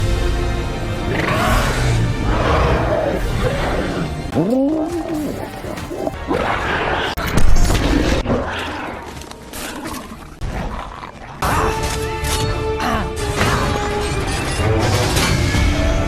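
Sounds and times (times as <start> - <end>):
action film music: 0.0 - 16.0.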